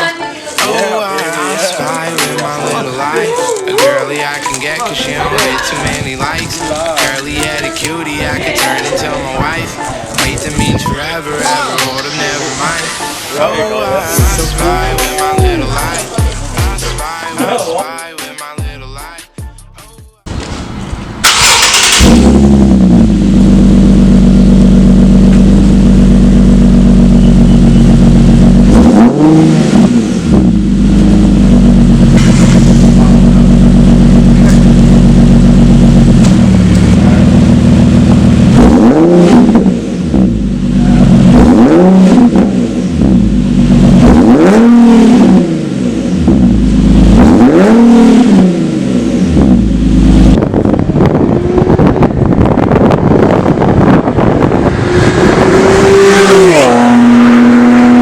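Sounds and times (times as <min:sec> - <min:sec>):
car engine idling and revving: 0:01.2 - 0:13.1, 0:14.1 - 0:17.1, 0:20.3 - 0:58.0.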